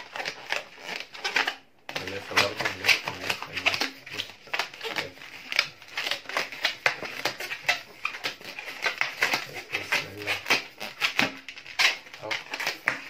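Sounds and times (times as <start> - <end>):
rubber balloons squeaking: 0.0 - 13.0.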